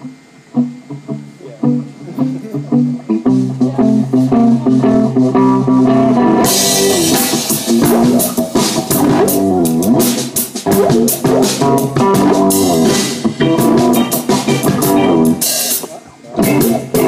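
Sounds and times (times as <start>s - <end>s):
bass guitar: 0.0s - 17.0s
electric guitar: 0.0s - 17.0s
drum kit and cymbals: 3.3s - 17.0s.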